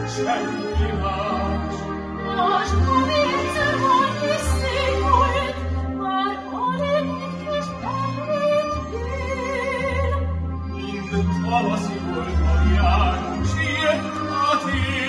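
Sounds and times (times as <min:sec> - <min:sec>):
operatic singing with vibrato: 0:00.0 - 0:15.0
symphony orchestra: 0:00.0 - 0:15.0.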